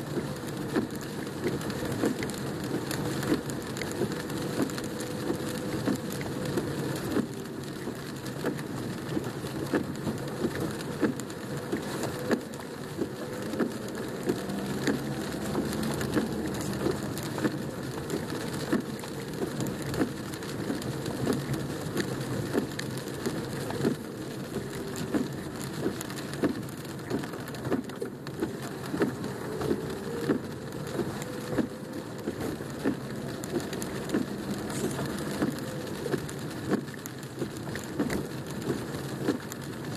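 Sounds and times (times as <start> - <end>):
car driving on wet road: 0.0 - 39.9
heavy rain on car roof: 0.0 - 39.9.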